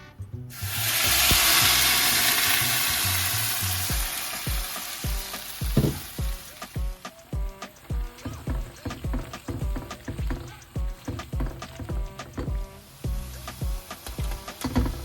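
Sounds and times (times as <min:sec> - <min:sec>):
background music with steady beat: 0:00.0 - 0:15.0
food sizzling in hot oil: 0:00.5 - 0:15.0.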